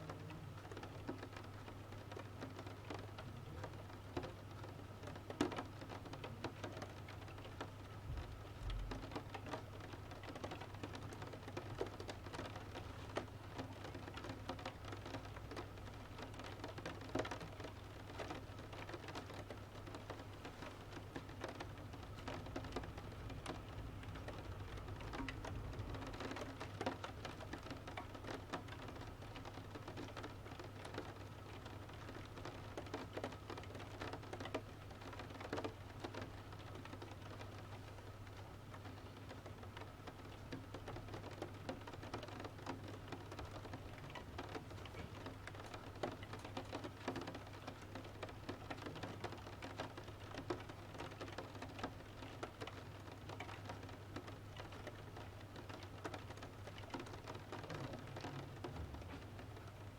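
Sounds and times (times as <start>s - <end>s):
rain pattering on a window: 0.0s - 59.9s.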